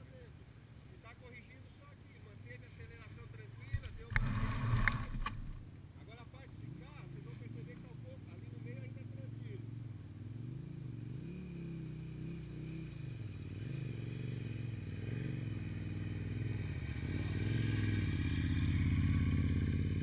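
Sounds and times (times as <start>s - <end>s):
motorcycle engine running: 2.8s - 5.7s, 6.6s - 20.0s.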